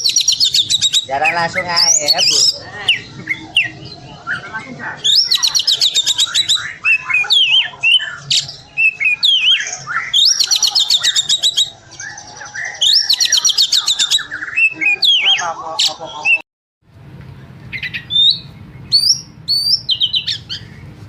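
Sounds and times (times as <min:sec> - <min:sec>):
magpie-robin singing: 0:00.0 - 0:16.4, 0:17.7 - 0:21.0.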